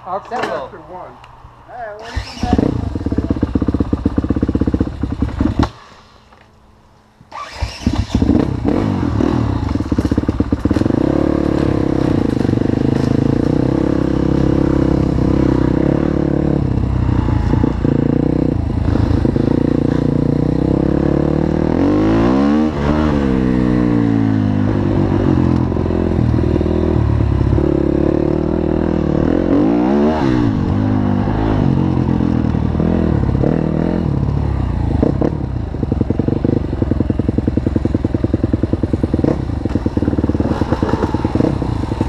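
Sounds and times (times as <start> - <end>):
dirt bike engine running: 2.1 - 5.8, 7.4 - 42.0.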